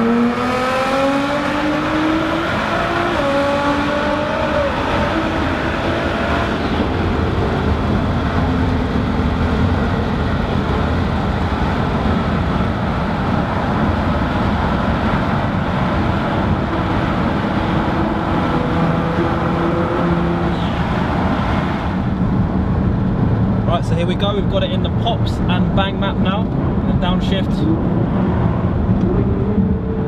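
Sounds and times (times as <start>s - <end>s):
car engine drone: 0.0s - 30.0s
road noise: 0.0s - 30.0s.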